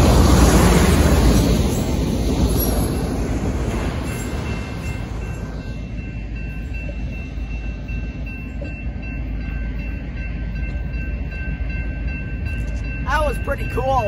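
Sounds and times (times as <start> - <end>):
crossing bell ringing: 1.5 - 14.0.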